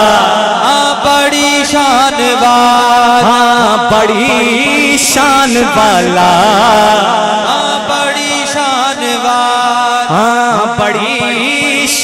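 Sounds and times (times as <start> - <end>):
man singing melismatic devotional song: 0.0 - 12.0.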